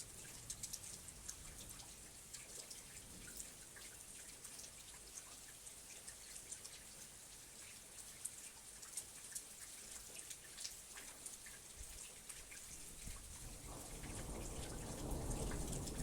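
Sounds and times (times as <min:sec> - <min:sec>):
rain drops ticking: 0:00.0 - 0:16.0.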